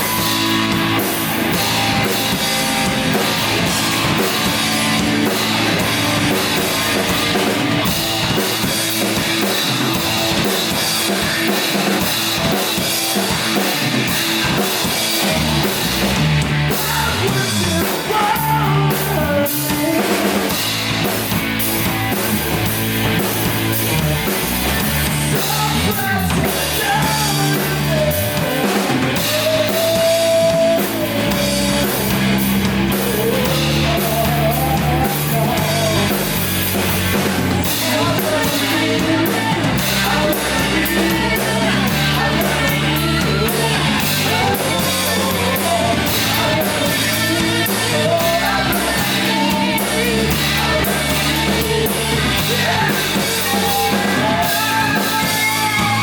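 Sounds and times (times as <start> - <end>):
bass guitar: 0.0 - 56.0
distorted electric guitars: 0.0 - 56.0
drum kit with cymbals: 0.0 - 56.0.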